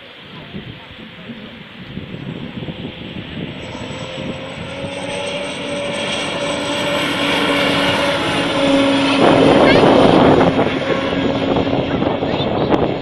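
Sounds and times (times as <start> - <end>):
high engine whine: 0.0 - 13.0
racing boat engine: 0.0 - 13.0.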